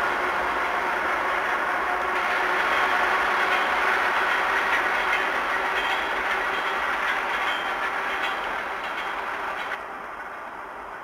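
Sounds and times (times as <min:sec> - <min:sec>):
train wheels on track: 0:00.0 - 0:11.0.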